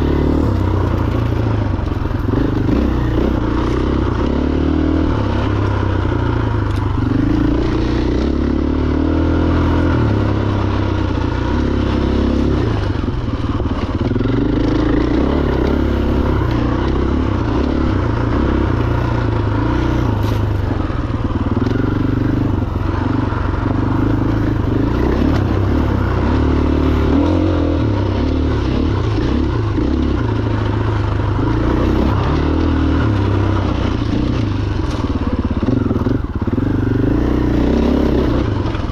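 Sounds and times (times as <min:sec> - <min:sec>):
clatter: 0:00.0 - 0:08.9, 0:09.8 - 0:38.9
motorcycle engine revving: 0:00.0 - 0:38.9.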